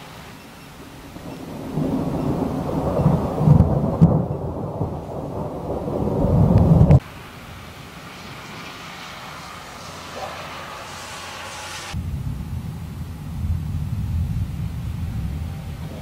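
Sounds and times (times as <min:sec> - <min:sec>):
rain hiss: 0:00.0 - 0:16.0
thunder rumbling and cracking: 0:00.8 - 0:09.9, 0:11.9 - 0:16.0.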